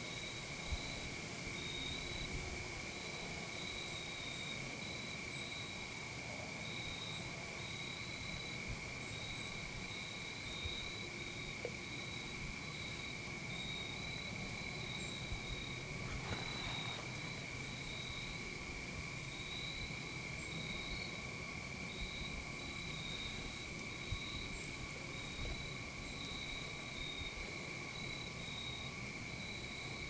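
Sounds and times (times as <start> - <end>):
higher pulsing insect trill: 0.0 - 30.0
insects trilling: 0.0 - 30.0.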